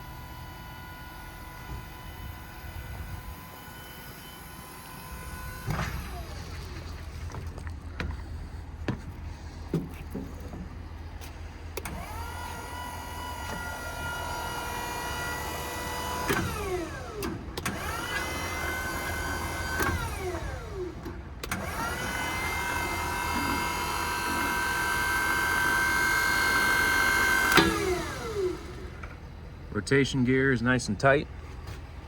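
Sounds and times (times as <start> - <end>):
electric pump motor whining: 0.0 - 29.7.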